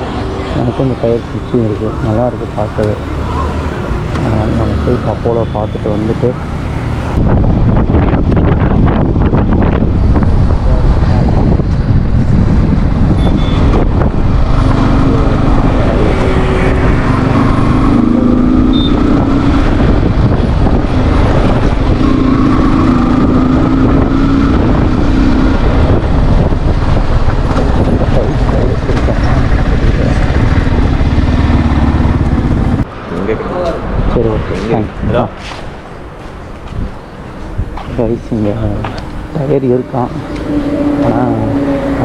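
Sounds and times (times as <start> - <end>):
motorcycle engine: 0.0 - 33.4, 38.6 - 42.0
road noise: 0.0 - 42.0
wind buffeting microphone: 6.3 - 42.0.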